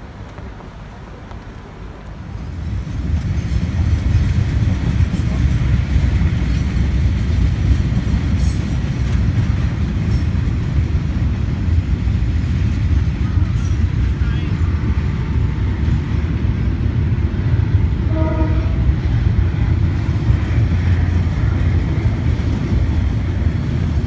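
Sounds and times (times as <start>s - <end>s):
faint train wheel clacks: 0.0s - 24.0s
freight train rumbling past: 0.0s - 24.0s.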